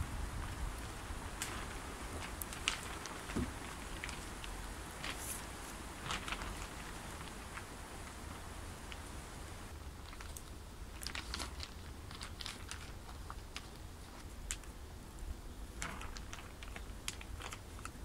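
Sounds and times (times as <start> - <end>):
plastic sheeting crinkling: 0.0 - 14.7, 15.7 - 18.0
low steady rumble: 0.0 - 18.0.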